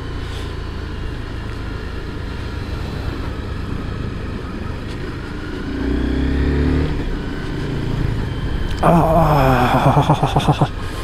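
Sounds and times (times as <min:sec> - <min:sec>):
motorcycle engine humming: 0:00.0 - 0:11.0
road noise: 0:00.0 - 0:11.0.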